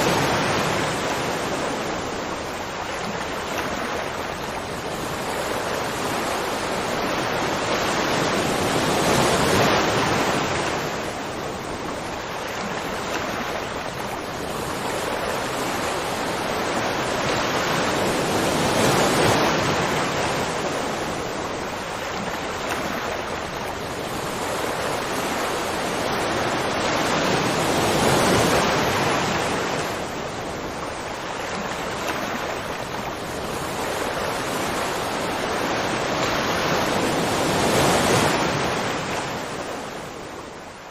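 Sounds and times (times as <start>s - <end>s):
rushing water roar: 0.0s - 40.9s.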